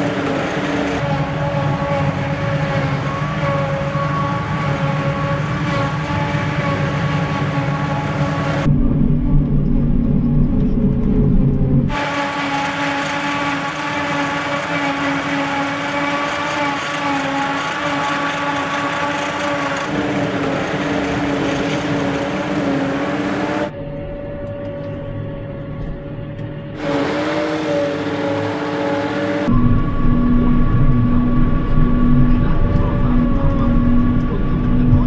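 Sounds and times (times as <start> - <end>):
deep engine rumble: 0.0 - 35.0
machine whine: 0.0 - 35.0.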